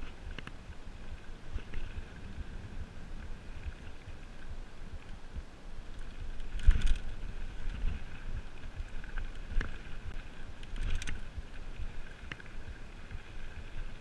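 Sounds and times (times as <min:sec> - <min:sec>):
bike rattling over bumps: 0:00.0 - 0:14.0
wind on microphone: 0:00.0 - 0:14.0.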